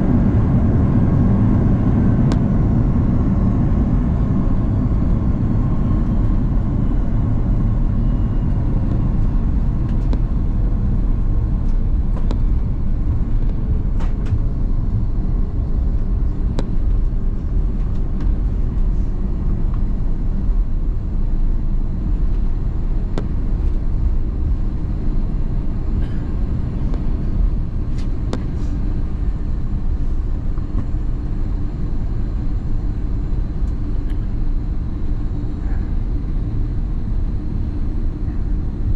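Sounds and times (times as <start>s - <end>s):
engine whine falling in pitch: 0.0s - 34.1s
aircraft engines and wheels rumbling: 0.0s - 38.9s.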